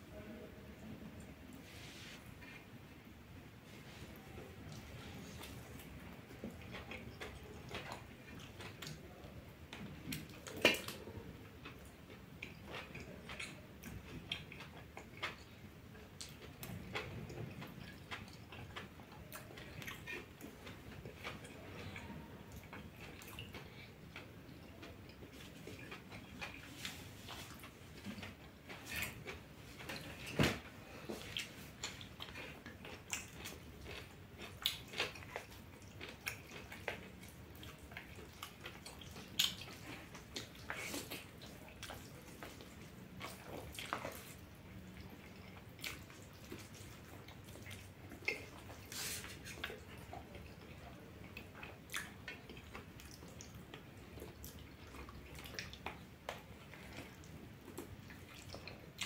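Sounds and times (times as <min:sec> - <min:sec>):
person chewing food: 0:03.7 - 0:59.0.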